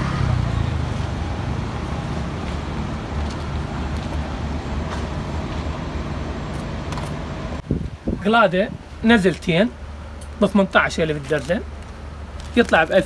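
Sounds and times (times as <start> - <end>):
car and scooter engines rumbling: 0.0 - 13.0.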